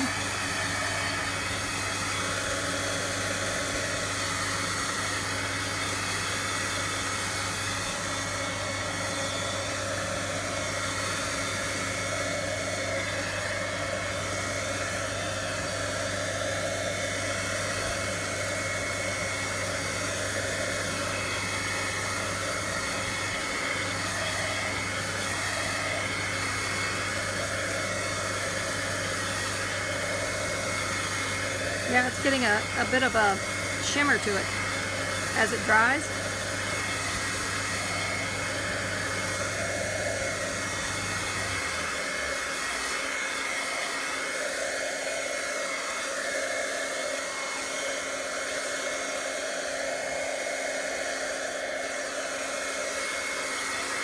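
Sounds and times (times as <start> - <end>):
heat tool blowing hot air: 0.0 - 54.0.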